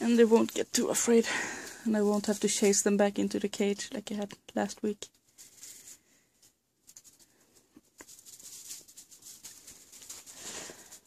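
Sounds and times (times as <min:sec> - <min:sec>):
faint rustling with clicks: 0:00.0 - 0:11.0.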